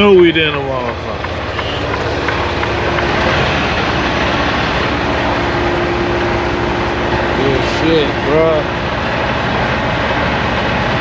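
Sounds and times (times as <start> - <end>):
heavy truck engine rumble: 0.0 - 11.0.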